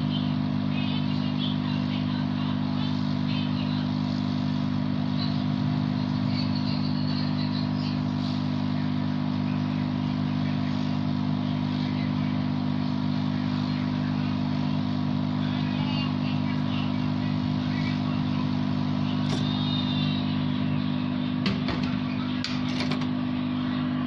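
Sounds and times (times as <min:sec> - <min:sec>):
hot air gun fan humming: 0:00.0 - 0:24.0.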